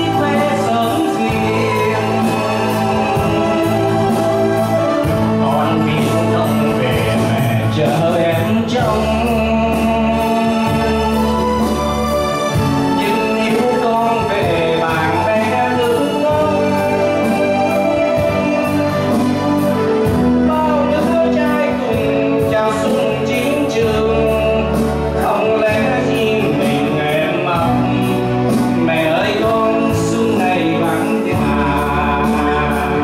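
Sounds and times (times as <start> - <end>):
man singing into microphone: 0.0 - 11.9, 12.6 - 33.0
backing music with bass notes: 0.0 - 33.0.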